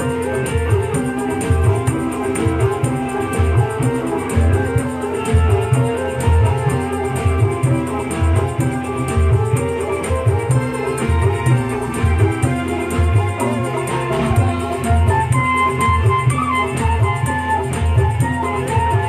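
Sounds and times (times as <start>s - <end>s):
low drum beat: 0.0s - 19.0s
plucked string melody: 0.0s - 19.0s.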